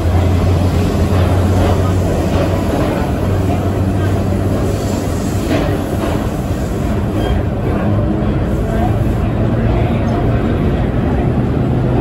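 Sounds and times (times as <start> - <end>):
subway wheels rumbling on rails: 0.0 - 12.0.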